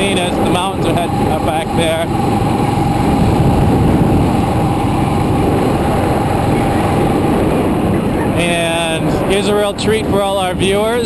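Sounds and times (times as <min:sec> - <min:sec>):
motorbike engine running: 0:00.0 - 0:11.0
thin steady whine: 0:00.0 - 0:11.0
wind on microphone: 0:00.0 - 0:11.0.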